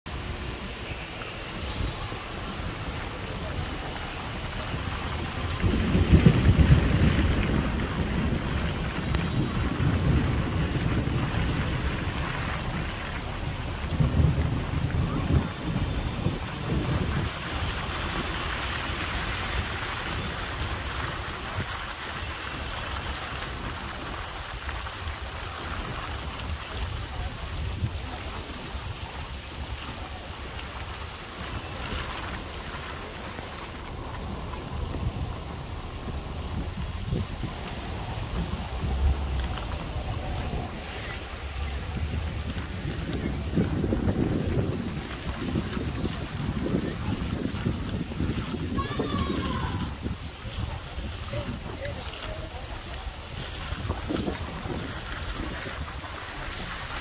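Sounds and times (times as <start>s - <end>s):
heavy rain hissing: 0.1s - 57.0s
low rumbling: 0.1s - 57.0s.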